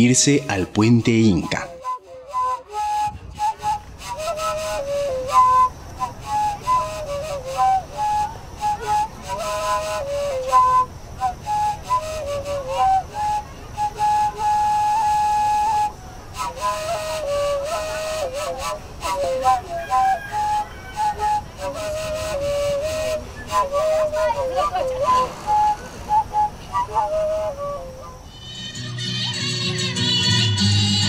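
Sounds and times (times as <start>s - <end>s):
flute melody: 0.0s - 31.0s.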